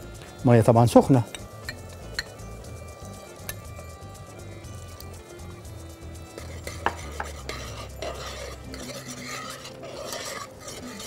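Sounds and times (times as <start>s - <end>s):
spoon stirring sauce in a pot: 1.2s - 11.0s.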